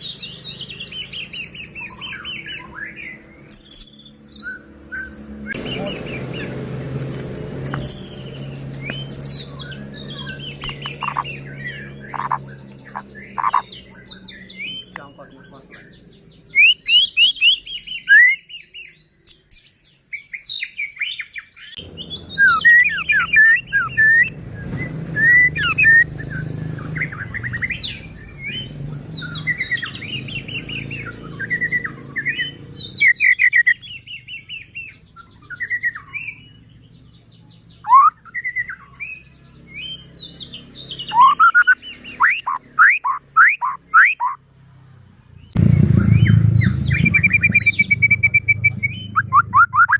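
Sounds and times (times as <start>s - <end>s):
bird singing whistled phrases: 0.0s - 6.5s, 7.1s - 15.9s, 16.5s - 26.3s, 26.9s - 36.6s, 37.7s - 44.4s, 46.0s - 49.9s.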